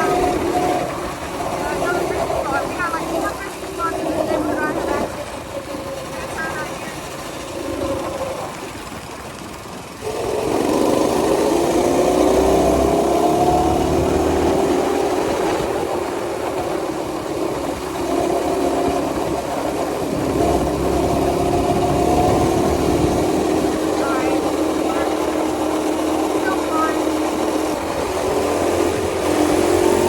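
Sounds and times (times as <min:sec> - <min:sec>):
small engine accelerating: 0:00.0 - 0:30.0.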